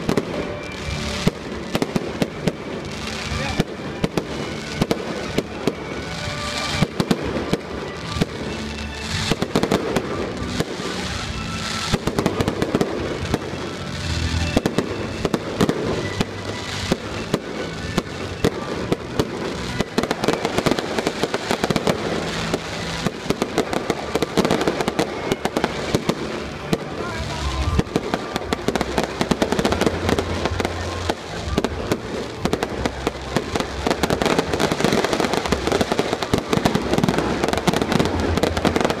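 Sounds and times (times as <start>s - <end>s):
fireworks bursting: 0.0s - 39.0s
music playing: 0.0s - 39.0s.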